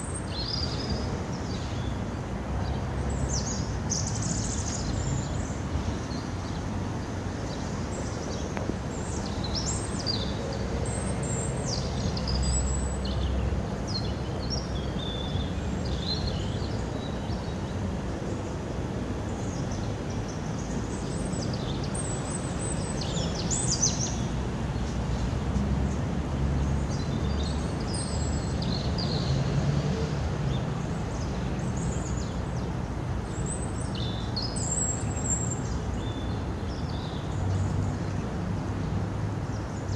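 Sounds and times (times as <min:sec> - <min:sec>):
small birds chirping: 0:00.0 - 0:29.6, 0:30.4 - 0:39.9.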